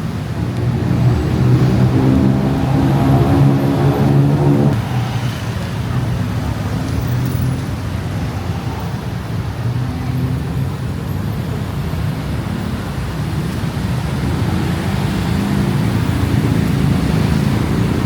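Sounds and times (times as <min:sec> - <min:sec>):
passing car engines: 0:00.0 - 0:10.8, 0:12.1 - 0:18.0.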